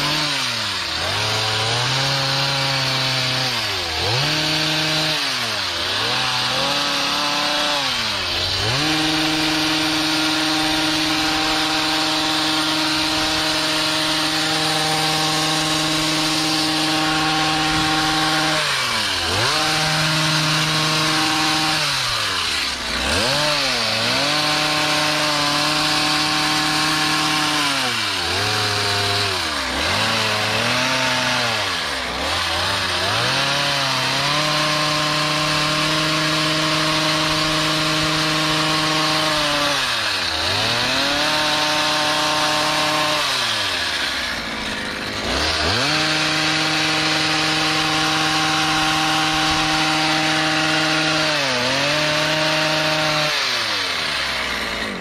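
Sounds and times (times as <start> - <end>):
hedge trimmer engine revving: 0.0 - 55.0.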